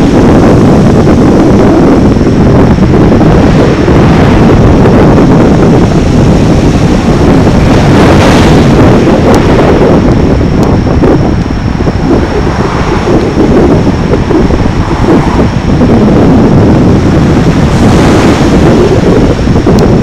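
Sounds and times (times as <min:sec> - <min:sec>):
wind buffeting the microphone: 0:00.0 - 0:20.0.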